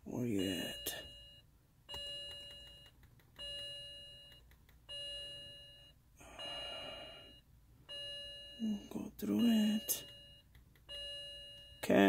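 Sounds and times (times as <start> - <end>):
car warning chime: 0.3 - 12.0.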